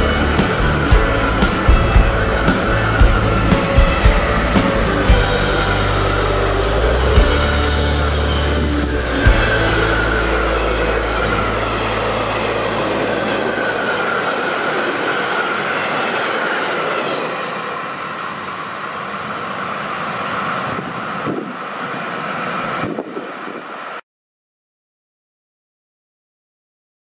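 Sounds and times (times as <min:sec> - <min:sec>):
high ringing from wheels: 0:00.0 - 0:24.0
train wheels rattling on rails: 0:00.0 - 0:24.0.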